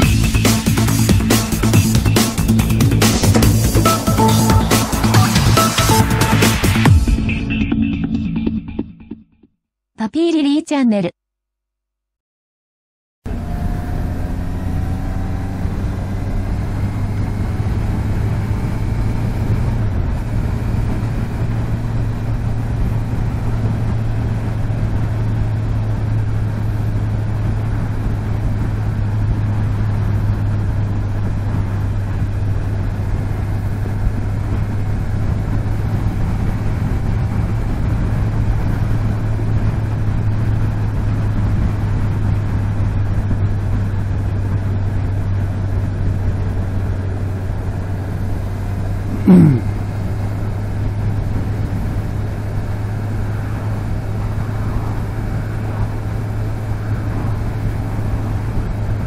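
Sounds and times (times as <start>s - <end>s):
wind and road noise: 0.0s - 8.0s, 13.3s - 59.0s
motorcycle engine running: 0.0s - 9.5s, 13.3s - 59.0s.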